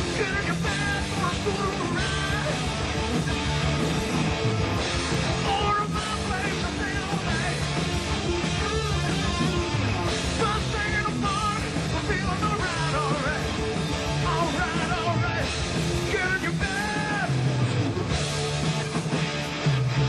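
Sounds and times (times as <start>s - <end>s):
rock band playing: 0.0s - 20.0s
wavering electric guitar lead: 0.0s - 20.0s.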